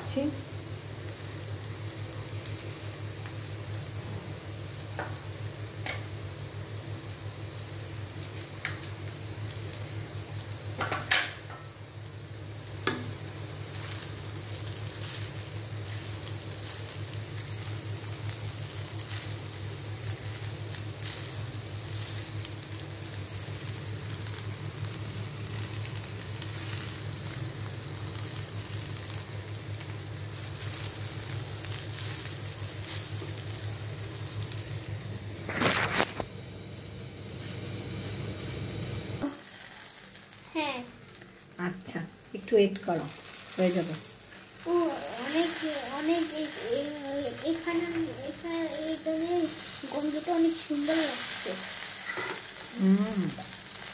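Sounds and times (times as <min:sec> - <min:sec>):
rice sizzling in a pan: 0:00.0 - 0:53.9.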